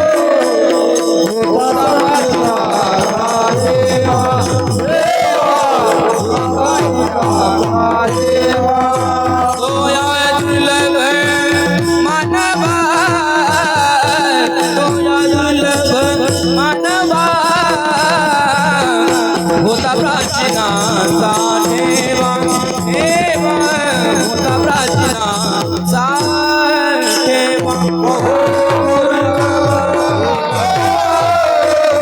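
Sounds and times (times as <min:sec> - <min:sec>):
hand drum: 0:00.0 - 0:32.0
person singing ornamented melody: 0:00.0 - 0:32.0.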